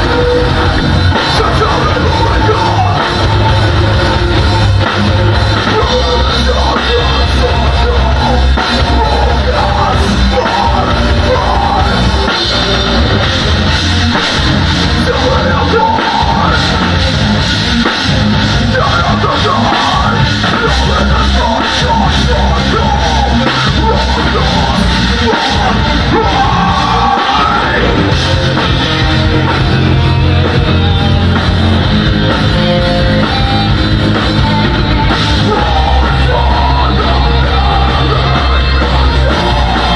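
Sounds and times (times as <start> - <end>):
bass guitar: 0.0 - 39.9
distorted guitars: 0.0 - 39.9
harsh yelled vocals: 0.0 - 39.9
pounding drum kit: 0.0 - 39.9.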